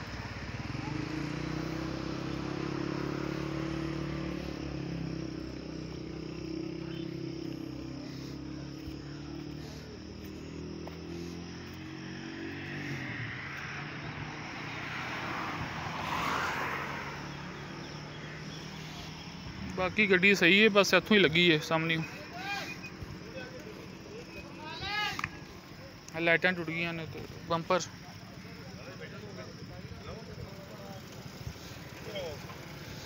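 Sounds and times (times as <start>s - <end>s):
engine hum: 0.0s - 33.0s
vehicles passing: 0.0s - 33.0s.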